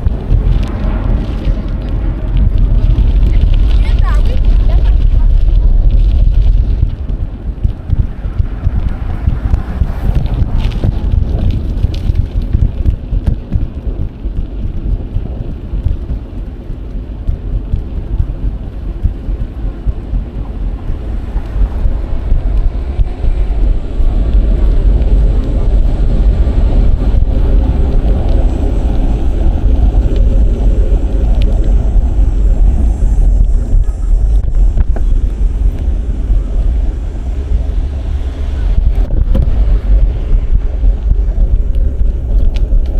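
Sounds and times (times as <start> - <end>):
road noise: 0.0 - 42.9
wind rumbling on microphone: 0.0 - 42.9.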